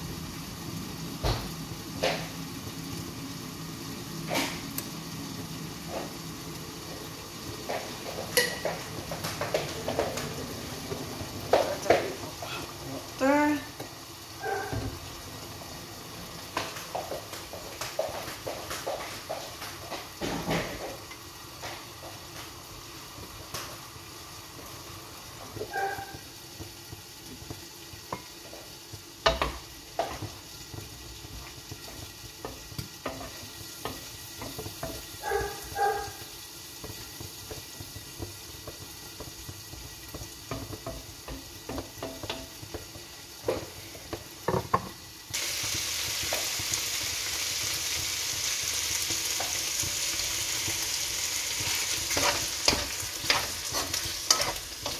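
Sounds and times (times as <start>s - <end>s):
food sizzling in hot pan: 0.0s - 54.9s
wooden spatula stirring in pan: 1.8s - 54.9s.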